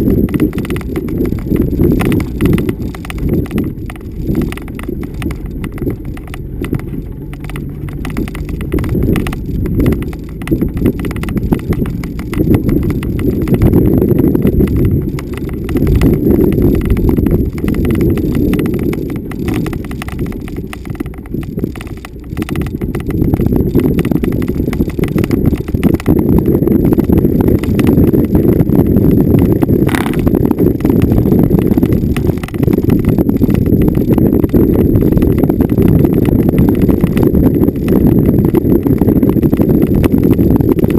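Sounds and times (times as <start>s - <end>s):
knocking and rattling: 0.0s - 40.9s
vehicle rumbling over bumpy terrain: 0.0s - 40.9s.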